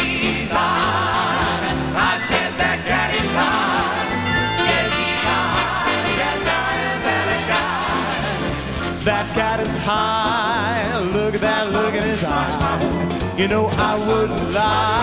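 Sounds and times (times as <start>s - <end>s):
deep voice singing bass line: 0.0s - 15.0s
lead voice singing with vibrato: 0.0s - 15.0s
male a cappella group singing: 0.0s - 15.0s.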